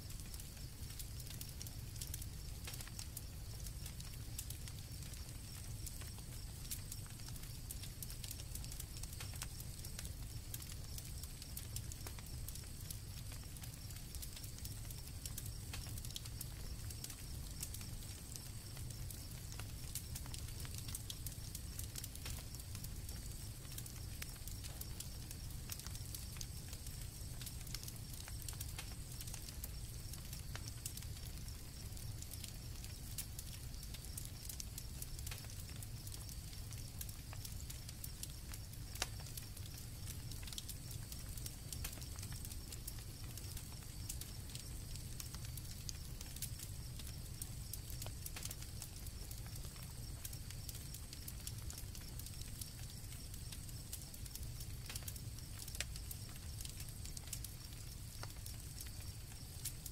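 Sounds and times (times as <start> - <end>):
campfire crackling and popping: 0.0 - 59.9
crickets chirring: 0.0 - 59.9.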